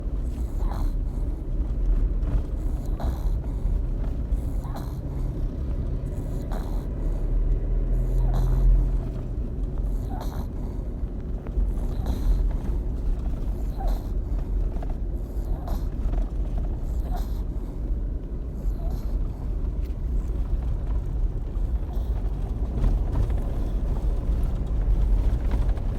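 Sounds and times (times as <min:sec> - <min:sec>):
pet snoring: 0:00.2 - 0:01.7, 0:02.3 - 0:17.9, 0:18.6 - 0:25.9.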